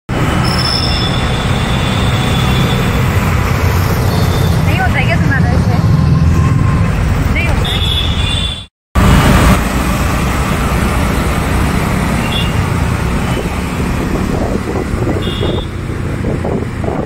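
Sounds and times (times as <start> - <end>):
auto-rickshaw engine running: 0.1 - 8.4, 9.0 - 17.0
surrounding traffic: 0.1 - 17.0.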